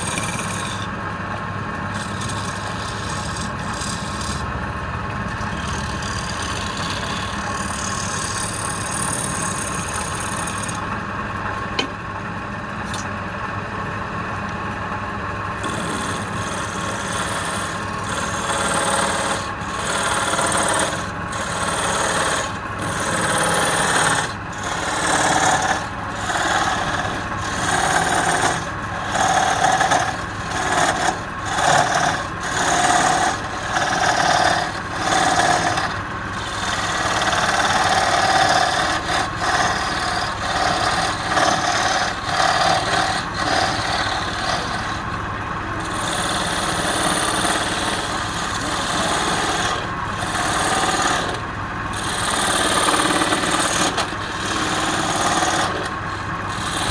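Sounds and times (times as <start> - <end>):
hand tool cutting wood on lathe: 0.0 - 1.0, 1.9 - 4.5, 5.3 - 11.0, 15.6 - 56.9
lathe running: 0.0 - 13.8, 14.7 - 56.9.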